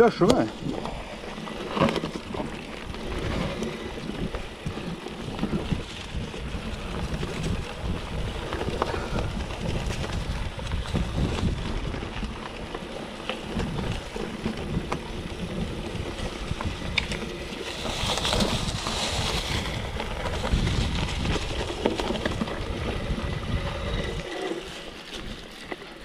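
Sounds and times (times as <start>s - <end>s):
wind on microphone: 0.0s - 25.5s
bike rattling over bumps: 0.0s - 26.0s
bike tyres rolling on dirt: 0.0s - 26.0s.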